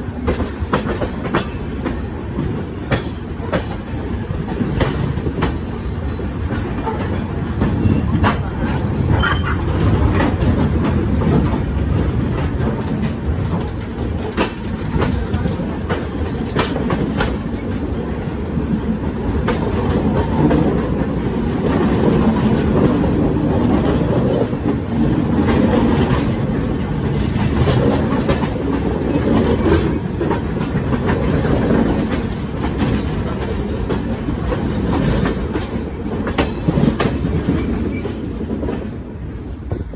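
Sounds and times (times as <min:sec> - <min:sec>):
train coaches rumbling past: 0:00.0 - 0:39.9
wheels clacking over rail joints: 0:00.1 - 0:39.0.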